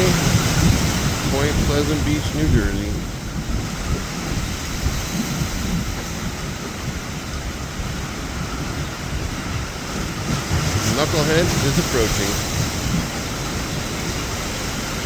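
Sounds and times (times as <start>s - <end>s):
surf and moving water: 0.0s - 15.0s
wind buffeting microphone: 0.0s - 15.0s.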